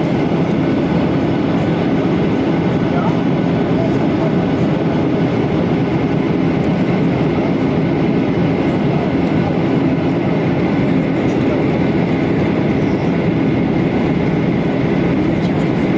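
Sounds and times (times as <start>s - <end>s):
aircraft cabin engine roar: 0.0s - 15.9s.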